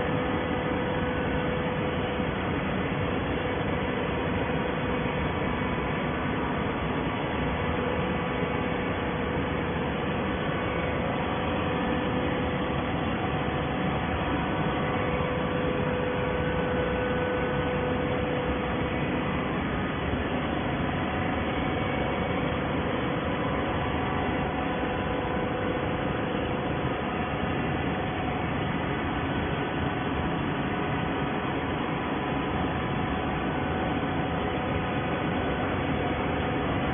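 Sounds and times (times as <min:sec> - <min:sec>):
baler motor and pump humming: 0:00.0 - 0:36.9.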